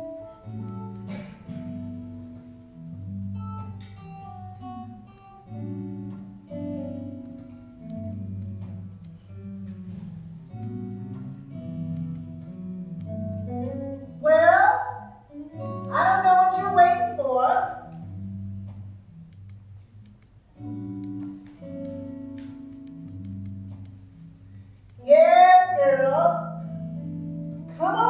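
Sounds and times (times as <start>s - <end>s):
instrumental music: 0.0s - 28.0s.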